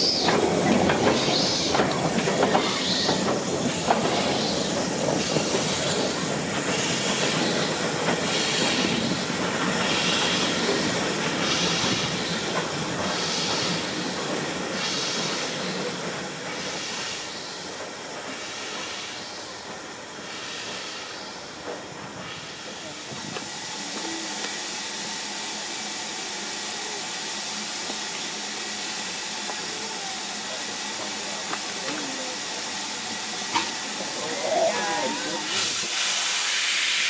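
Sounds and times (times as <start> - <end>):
steam locomotive hissing beat: 0.0 - 37.0
train rail noise: 0.0 - 37.0.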